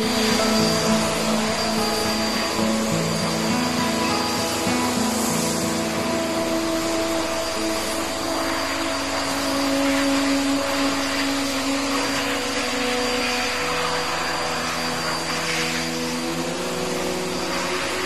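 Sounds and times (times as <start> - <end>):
pet dryer blowing air: 0.0 - 18.0.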